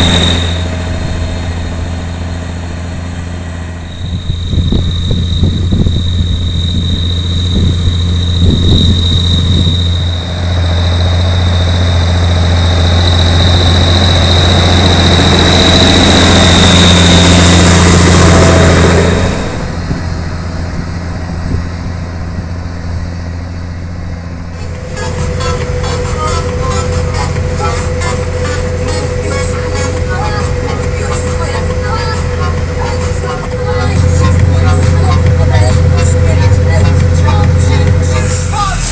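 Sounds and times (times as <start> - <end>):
steady high whine: 0.0 - 38.9
tractor diesel engine: 0.0 - 38.9.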